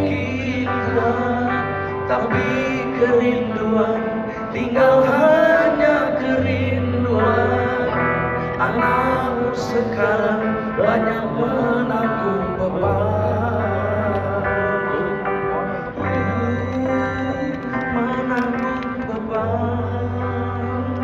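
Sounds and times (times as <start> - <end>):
electric guitar: 0.0 - 21.0.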